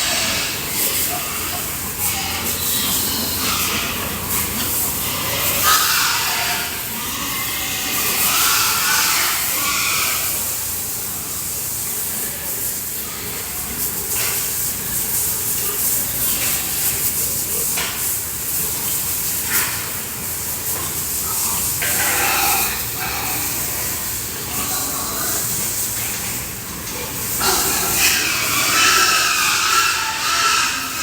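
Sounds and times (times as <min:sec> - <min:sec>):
water spraying from hose: 0:00.0 - 0:31.0.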